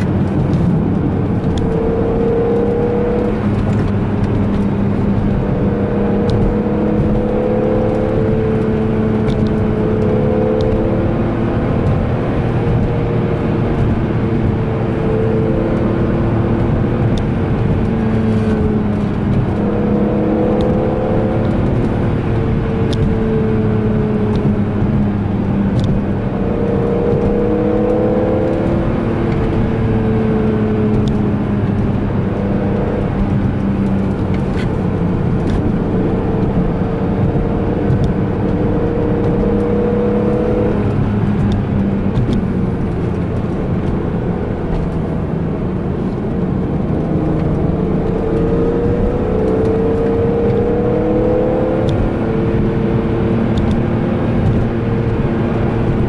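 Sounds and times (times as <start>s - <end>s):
car engine cruising: 0.0s - 56.0s.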